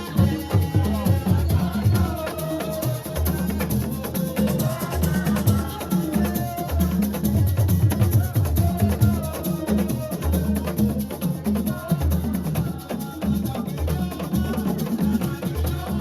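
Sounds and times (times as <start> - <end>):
drum and shaker beat: 0.0 - 16.0.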